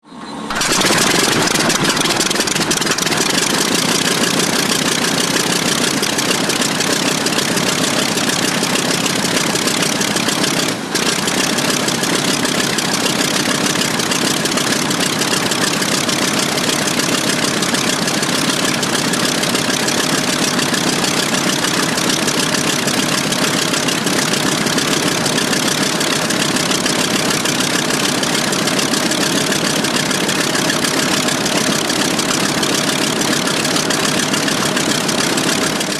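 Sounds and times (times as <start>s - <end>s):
radial aircraft engine running: 0.1s - 35.9s.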